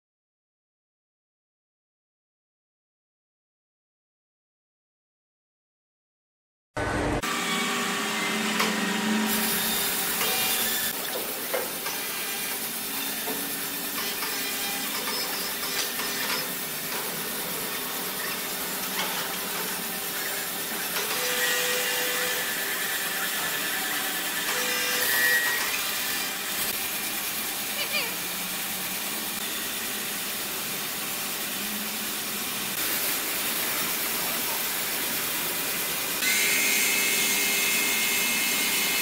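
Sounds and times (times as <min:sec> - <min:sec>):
sawmill running: 0:06.8 - 0:39.0.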